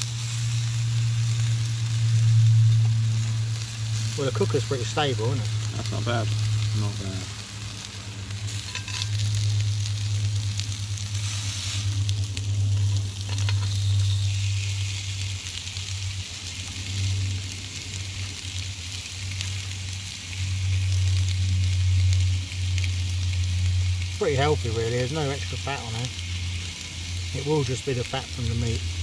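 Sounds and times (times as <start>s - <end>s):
burgers sizzling on a griddle: 0.0s - 29.0s
low hum: 0.0s - 29.0s.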